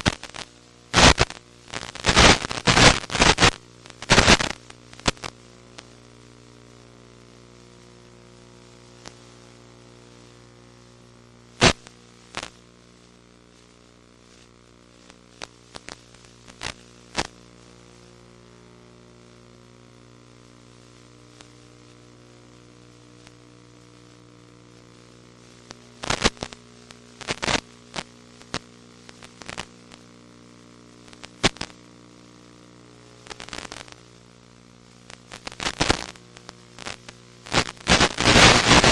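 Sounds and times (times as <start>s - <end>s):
electrical hum: 0.0s - 38.9s
faint hiss: 0.0s - 38.9s
static crackles: 0.0s - 38.9s.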